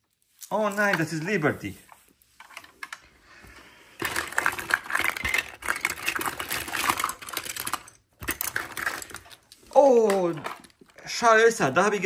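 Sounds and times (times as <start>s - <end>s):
plastic toy figures clattering: 0.4s - 1.4s, 2.4s - 3.1s, 4.0s - 12.0s.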